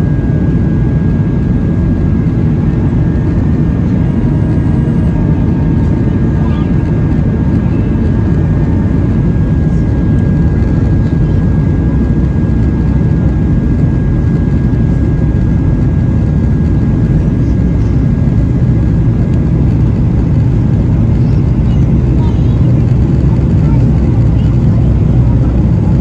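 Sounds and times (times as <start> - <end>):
jet cabin low rumble: 0.0 - 26.0
thin steady whine: 0.0 - 26.0.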